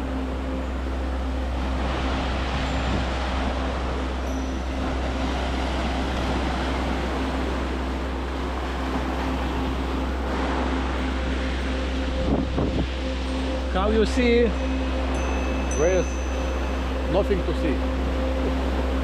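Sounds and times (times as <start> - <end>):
wind on microphone: 0.0 - 17.1.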